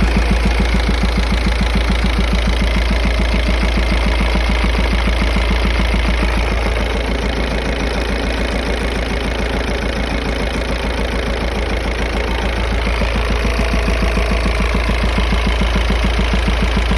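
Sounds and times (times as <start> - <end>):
diesel engine idling with rhythmic knock: 0.0 - 16.9.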